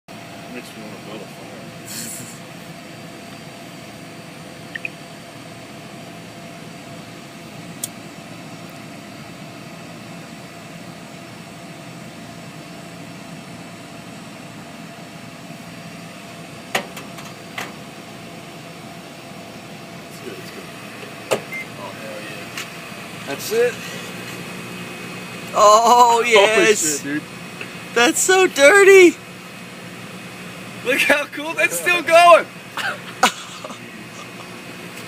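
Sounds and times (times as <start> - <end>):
microwave oven humming: 0.1 - 35.0.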